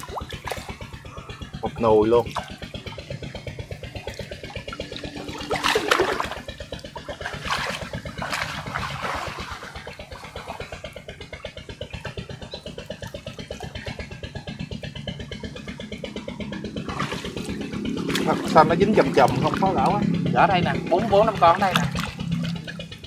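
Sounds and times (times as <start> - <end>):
small engine chugging: 0.0 - 23.0
water splashing: 0.0 - 23.0.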